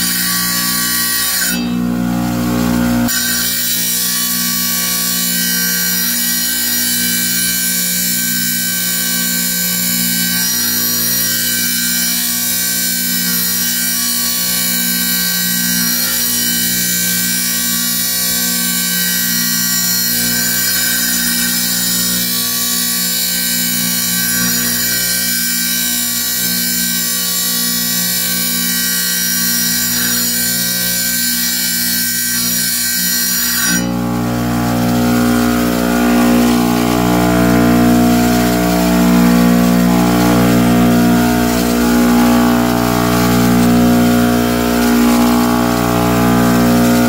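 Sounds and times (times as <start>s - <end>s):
tile saw motor whine: 0.0s - 47.0s.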